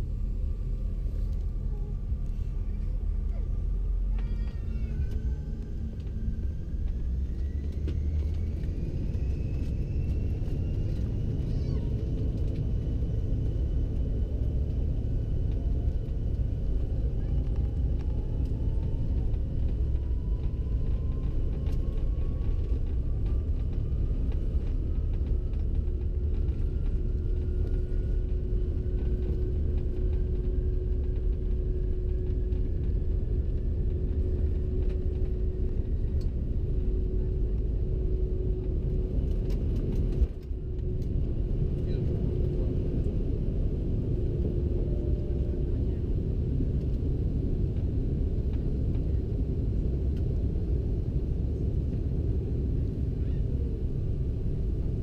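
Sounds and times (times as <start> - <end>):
faint engine whine: 0.0 - 55.0
jet cabin rumble: 0.0 - 55.0.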